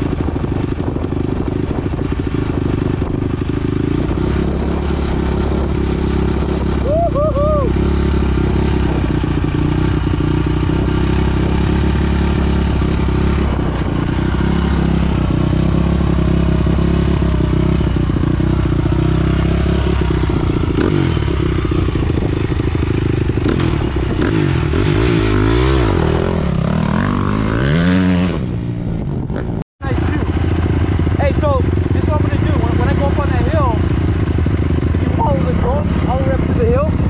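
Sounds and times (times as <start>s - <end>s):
dirt bike engine idling: 0.0s - 37.0s
dirt bike revving and riding off: 0.0s - 37.0s.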